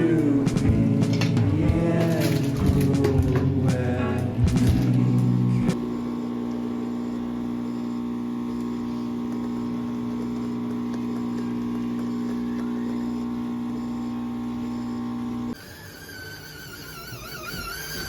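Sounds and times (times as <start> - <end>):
electric appliance motor humming: 0.0 - 18.0.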